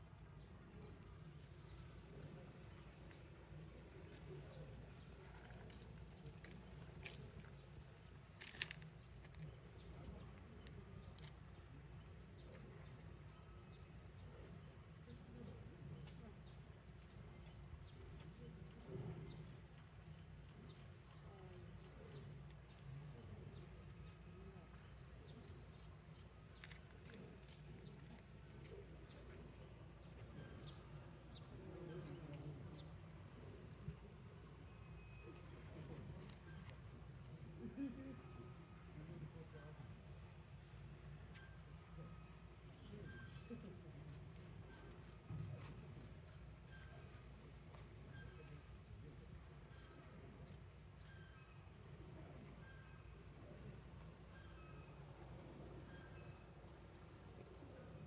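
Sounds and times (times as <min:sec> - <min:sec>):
faint background hum: 0:00.0 - 0:58.0.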